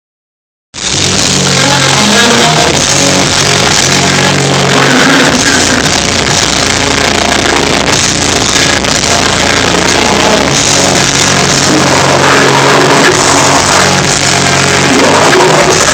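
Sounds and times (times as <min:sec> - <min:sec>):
live hardcore band playing: 0:00.8 - 0:15.9.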